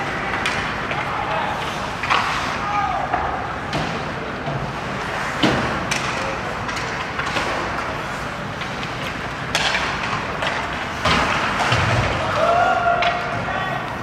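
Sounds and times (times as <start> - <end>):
arena noise: 0.0 - 14.0
hockey sticks and puck knocking: 0.0 - 14.0.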